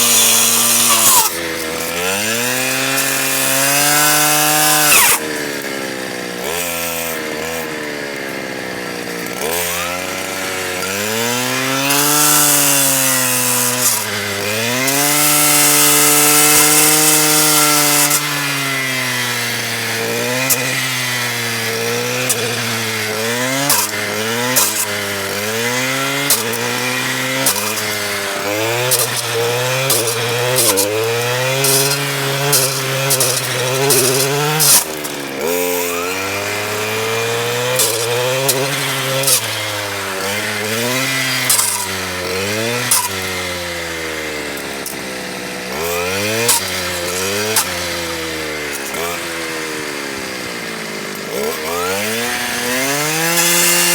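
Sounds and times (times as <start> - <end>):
power saw cutting wood: 0.0 - 53.9.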